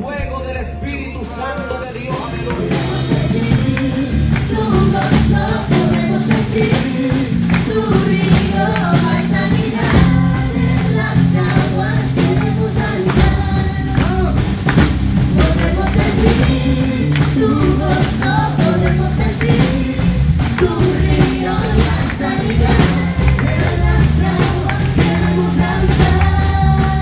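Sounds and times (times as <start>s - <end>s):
gospel music with singing: 0.0s - 27.0s.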